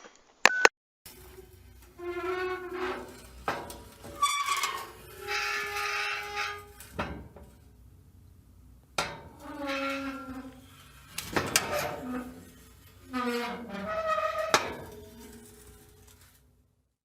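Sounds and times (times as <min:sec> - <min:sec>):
metal clangs: 0:01.1 - 0:08.2, 0:08.8 - 0:16.4
gate hinges creaking: 0:01.1 - 0:16.4
metal clanks: 0:01.1 - 0:16.5.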